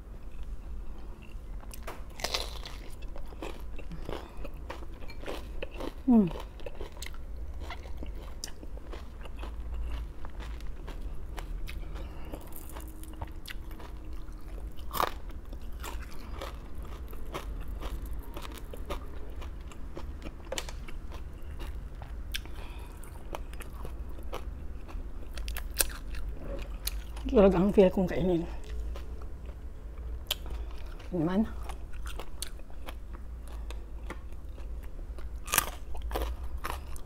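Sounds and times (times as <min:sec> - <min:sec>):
low steady hum: 0:00.0 - 0:37.0
crunchy vegetable bites and chewing: 0:01.7 - 0:27.2, 0:31.6 - 0:37.0.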